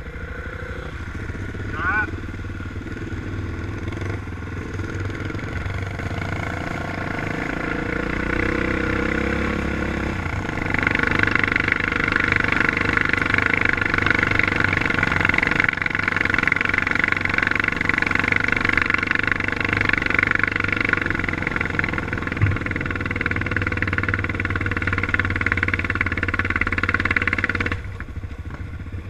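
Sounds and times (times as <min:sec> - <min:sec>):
quad bike engine revving: 0:00.0 - 0:29.0.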